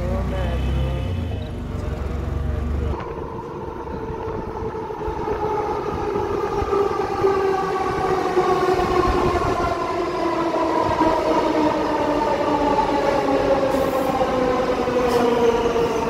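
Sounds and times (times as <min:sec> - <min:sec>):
electric train whine: 0:02.6 - 0:16.0.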